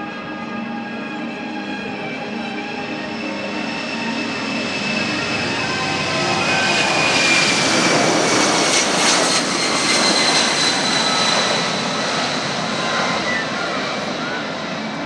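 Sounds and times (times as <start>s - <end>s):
jet aircraft passing with whine: 0.0s - 15.0s.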